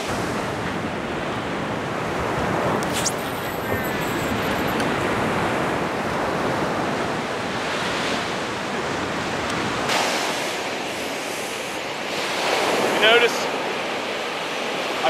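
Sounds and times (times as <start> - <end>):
wind rumbling on microphone: 0.0 - 13.0
ocean surf washing onto beach: 0.0 - 15.0.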